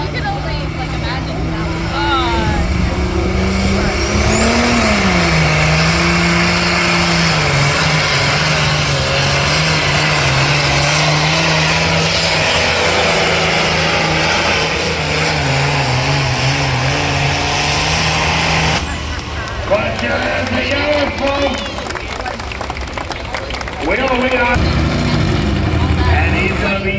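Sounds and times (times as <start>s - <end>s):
loud rushing exhaust: 0.0s - 21.2s, 23.9s - 26.9s
engine at high revs under load: 0.0s - 26.9s.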